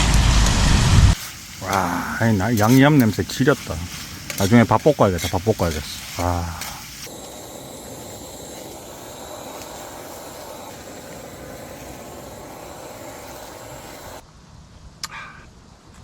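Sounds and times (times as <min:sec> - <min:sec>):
meat sizzling on a grill: 0:00.6 - 0:14.2.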